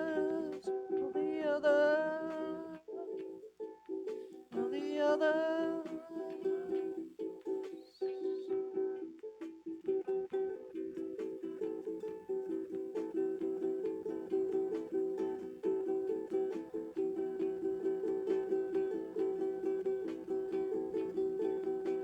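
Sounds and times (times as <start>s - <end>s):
guitar plucking pattern: 0.0s - 22.0s.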